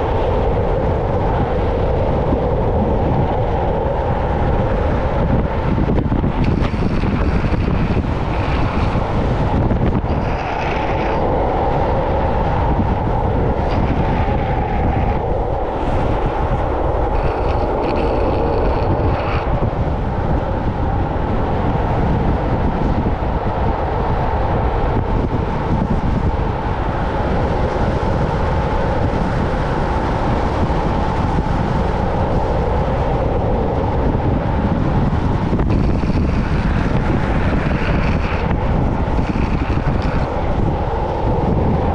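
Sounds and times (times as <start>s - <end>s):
longboard wheels rolling on asphalt: 0.0s - 41.9s
wind rushing on microphone: 0.0s - 41.9s.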